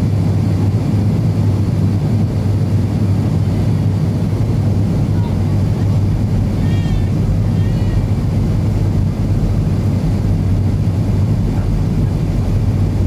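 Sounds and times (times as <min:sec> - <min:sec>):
airliner cabin drone: 0:00.0 - 0:13.0
rush of air over wing: 0:00.0 - 0:13.0.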